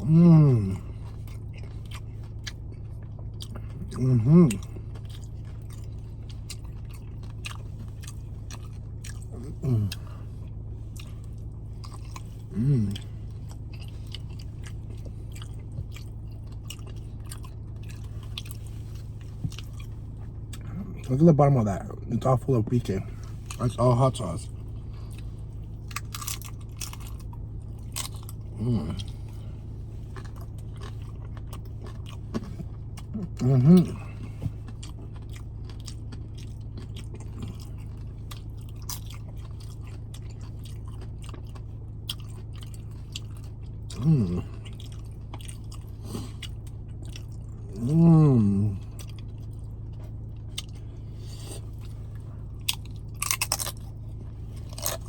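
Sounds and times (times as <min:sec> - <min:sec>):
chewing crisp chips: 0:00.0 - 0:55.0
steady low hum: 0:00.0 - 0:55.0.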